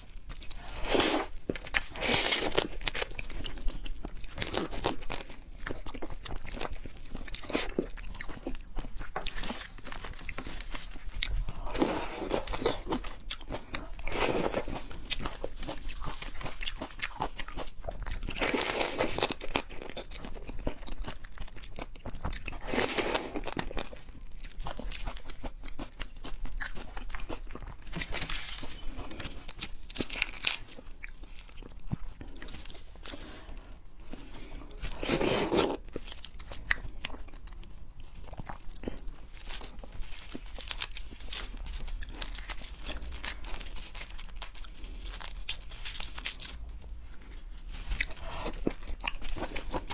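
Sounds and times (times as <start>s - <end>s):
chewing and crunching seafood: 0.0s - 49.9s.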